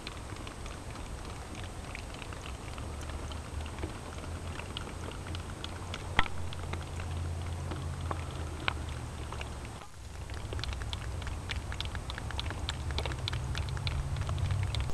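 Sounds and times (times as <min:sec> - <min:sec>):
low steady rumble: 0:00.0 - 0:14.9
water dripping on rock: 0:00.0 - 0:14.9.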